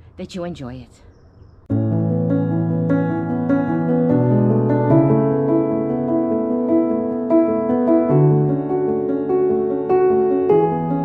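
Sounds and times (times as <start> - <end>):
slow piano background music: 1.7 - 11.0.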